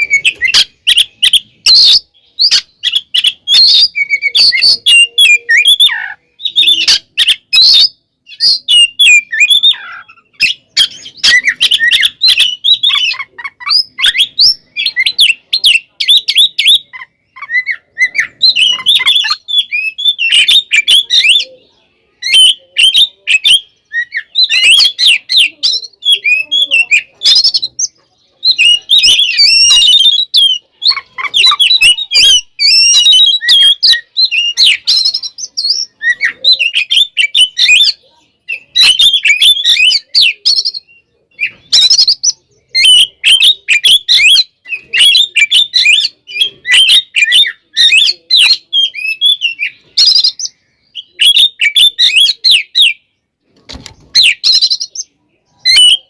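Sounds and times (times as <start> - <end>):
bird singing chirps and whistles: 0.0 - 56.0.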